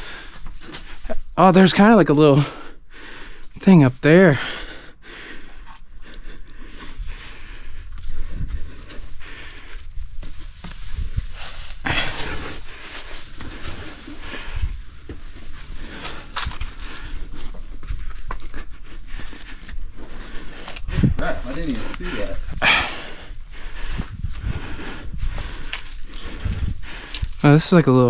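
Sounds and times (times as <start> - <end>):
climber breathing: 0.0 - 1.4, 2.3 - 3.6, 4.2 - 27.8
steady low rumble: 5.1 - 27.8.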